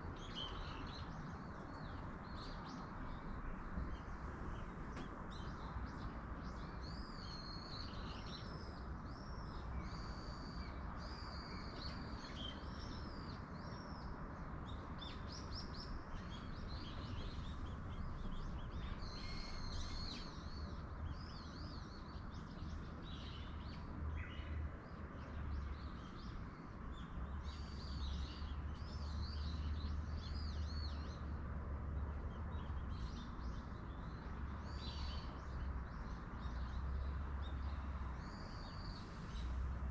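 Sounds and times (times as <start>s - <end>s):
small songbirds chirping: 0.0s - 39.9s
wind noise with low rumble: 0.0s - 39.9s.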